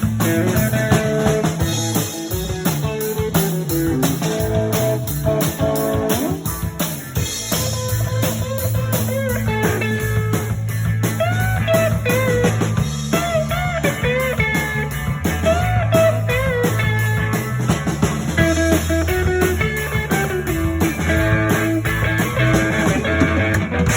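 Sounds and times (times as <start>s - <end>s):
blues-rock band playing: 0.0s - 23.9s
lead guitar with bent notes: 0.0s - 23.9s.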